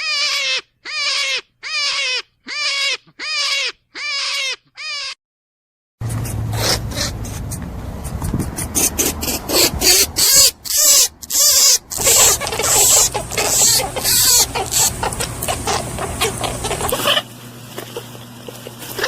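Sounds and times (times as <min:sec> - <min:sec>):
rabbit squeaking and hissing: 0:00.0 - 0:05.2, 0:06.0 - 0:19.0.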